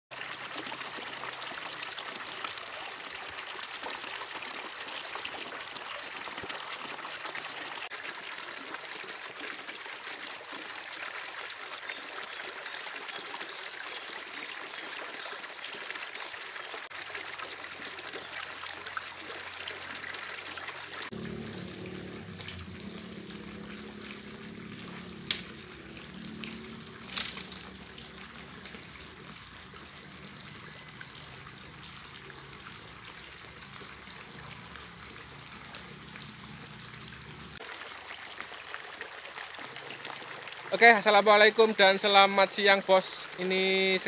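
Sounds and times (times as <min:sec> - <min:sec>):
stream flowing over stones: 0:00.1 - 0:44.0.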